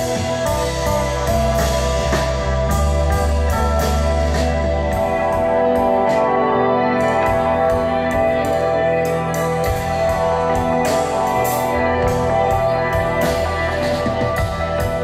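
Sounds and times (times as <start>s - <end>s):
bass guitar: 0.0s - 15.0s
drum kit with cymbal hits: 0.0s - 15.0s
electric guitar ringing chords: 0.0s - 15.0s.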